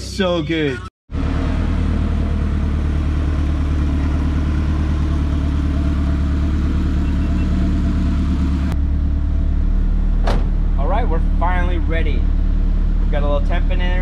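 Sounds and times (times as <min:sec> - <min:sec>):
car engine idling: 0:00.6 - 0:14.0.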